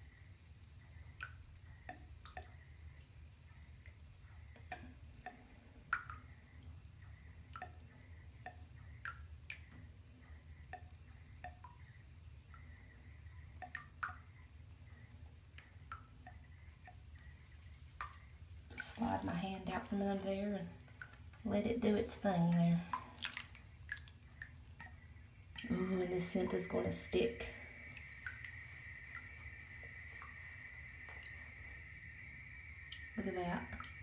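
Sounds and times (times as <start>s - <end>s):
low steady hum: 0.0s - 34.0s
water dripping into bathtub: 0.0s - 34.0s.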